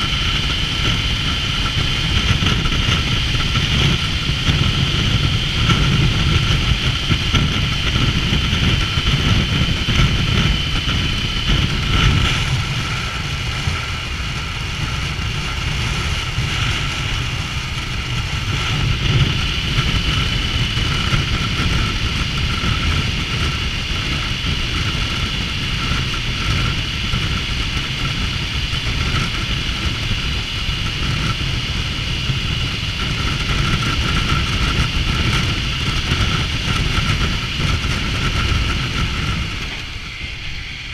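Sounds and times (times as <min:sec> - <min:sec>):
motorcycle engine running: 0:00.0 - 0:40.9
steady high whine: 0:00.0 - 0:40.9
wind rumble on microphone: 0:00.0 - 0:40.9.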